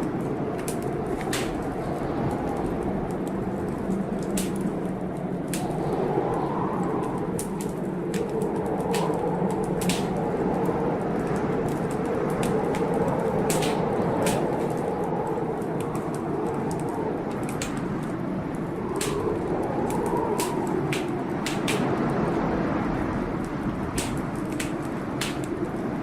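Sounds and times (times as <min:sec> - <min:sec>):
storm noise outside: 0:00.0 - 0:26.0
wood fire crackling: 0:00.0 - 0:26.0.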